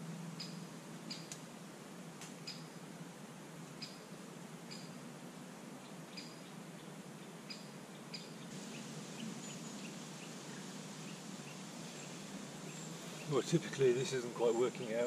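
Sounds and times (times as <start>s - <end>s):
faint outdoor hiss: 0.0s - 15.0s
small birds chirping: 0.4s - 1.4s, 2.4s - 2.9s, 3.7s - 5.1s, 5.7s - 15.0s.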